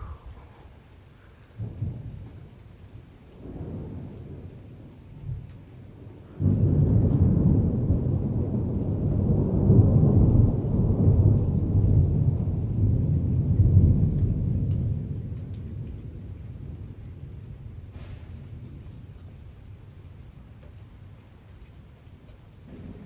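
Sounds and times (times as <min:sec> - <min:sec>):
thunder rumbling: 0:00.0 - 0:00.7, 0:01.6 - 0:19.2, 0:22.7 - 0:23.0
steady rain: 0:00.0 - 0:23.0.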